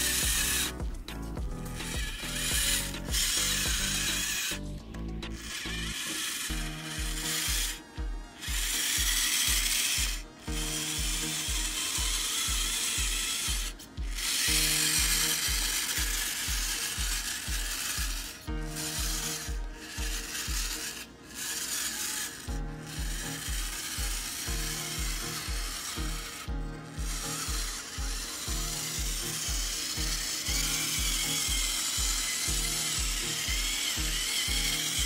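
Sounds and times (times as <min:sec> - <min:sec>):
background music with low beat: 0:00.0 - 0:35.0
model tractor motor whirring: 0:00.0 - 0:35.0.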